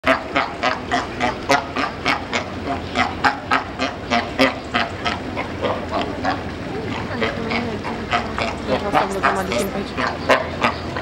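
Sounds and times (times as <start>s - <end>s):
sea lions barking: 0.1s - 11.0s.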